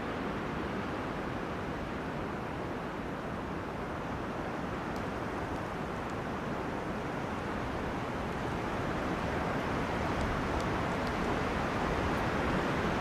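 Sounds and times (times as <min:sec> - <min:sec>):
wind through trees: 0:00.0 - 0:13.0.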